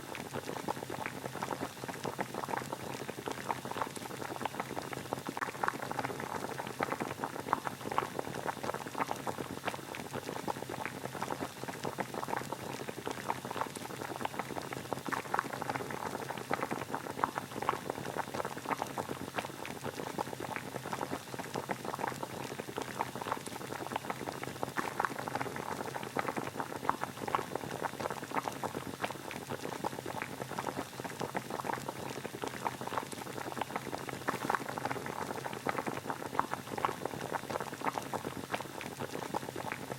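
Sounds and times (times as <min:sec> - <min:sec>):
water boiling and bubbling: 0:00.0 - 0:39.9.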